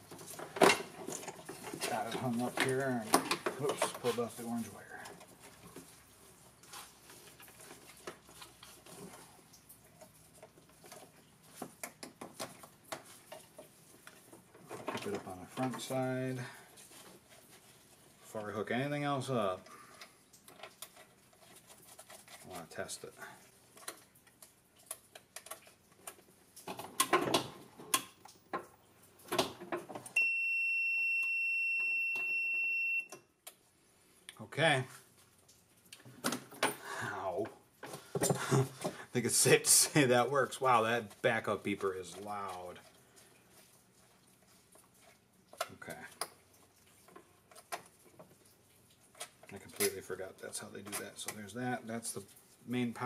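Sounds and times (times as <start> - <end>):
faint rustling of wires: 0.0 - 30.3, 33.4 - 53.0.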